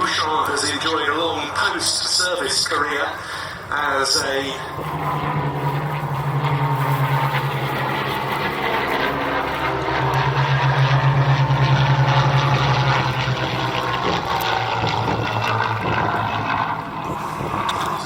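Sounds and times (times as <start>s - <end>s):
propeller aircraft flying past: 0.0s - 18.0s.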